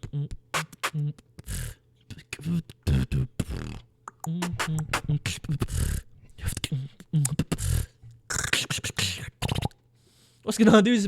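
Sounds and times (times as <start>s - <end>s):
beatboxing: 0.0s - 9.8s.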